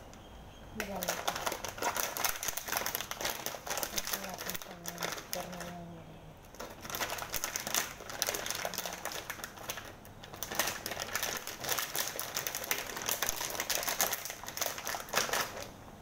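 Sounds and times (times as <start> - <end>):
plastic packet crinkling: 0.8 - 5.9, 6.5 - 15.8.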